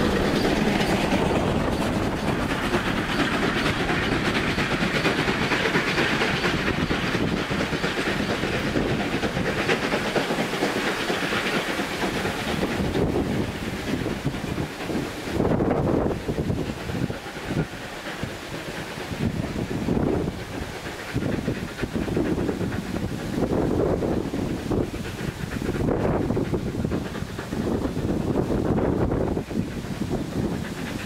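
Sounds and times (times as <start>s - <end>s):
steam hissing: 0.0s - 31.0s
train rumble: 0.0s - 31.0s
train wheels clacking over rail joints: 0.0s - 31.0s.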